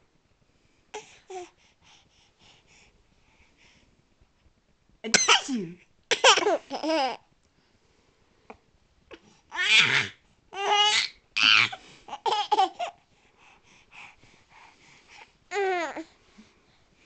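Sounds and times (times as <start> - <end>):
soft breathy sounds: 0.0 - 5.0, 5.6 - 9.6, 10.2 - 17.0.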